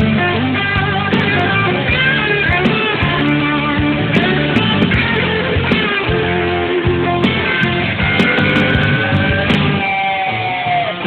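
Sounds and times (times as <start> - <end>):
guitar background music: 0.0 - 11.0.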